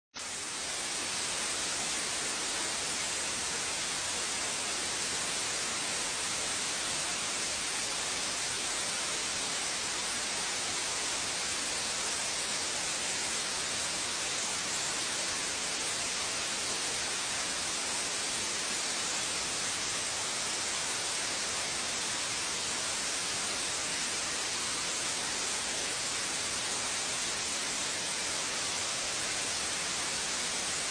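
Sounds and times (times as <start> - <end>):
television static hiss: 0.2 - 30.9.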